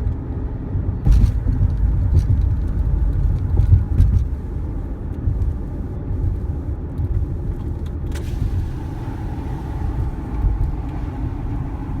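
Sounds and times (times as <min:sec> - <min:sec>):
road vehicle noise: 0:00.0 - 0:12.0
strong wind rumble: 0:00.0 - 0:12.0.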